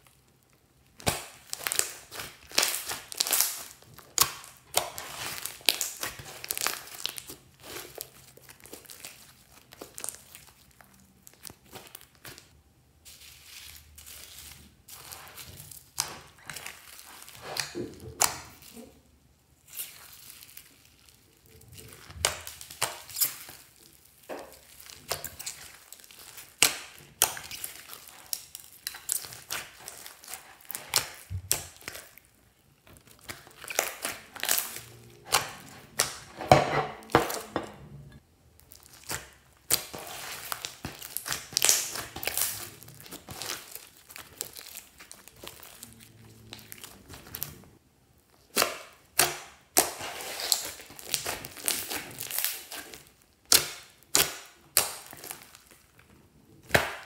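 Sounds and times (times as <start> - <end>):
slime crackling and popping: 0.0 - 37.6, 38.5 - 57.0.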